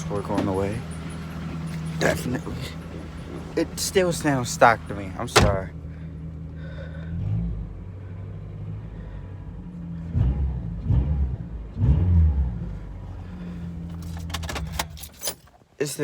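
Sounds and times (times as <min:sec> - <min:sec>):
car engine idling and revving: 0:00.0 - 0:15.6.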